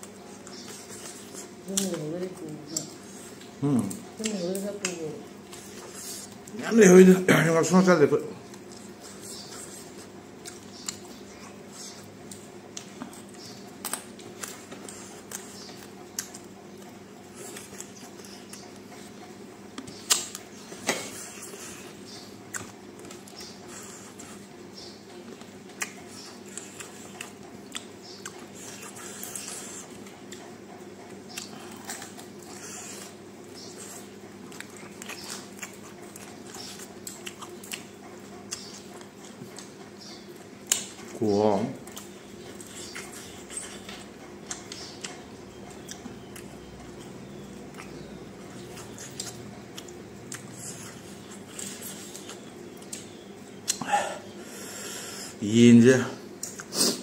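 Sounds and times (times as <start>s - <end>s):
man chewing food: 0.0s - 55.5s, 56.2s - 57.0s
steady low hum: 0.0s - 57.0s.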